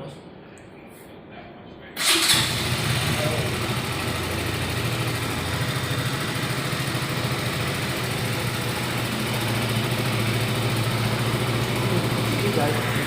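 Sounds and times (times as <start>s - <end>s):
motorcycle engine idling: 2.0s - 13.0s.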